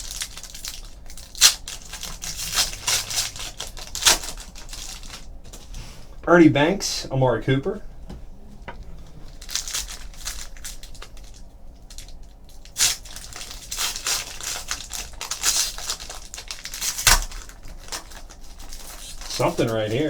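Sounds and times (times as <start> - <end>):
wrappers torn and crinkled: 0.0 - 5.6, 9.3 - 20.0.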